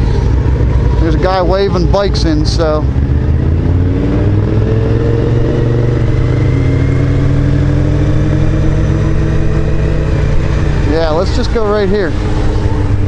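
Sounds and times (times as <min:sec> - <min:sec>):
low rumble: 0:00.0 - 0:13.0
motorcycle engine running: 0:00.0 - 0:13.0.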